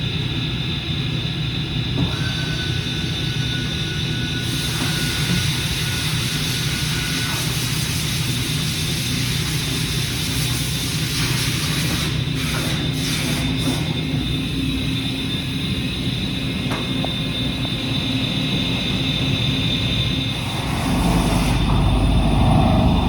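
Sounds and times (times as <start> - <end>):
milling machine hum and whine: 0.0 - 23.0.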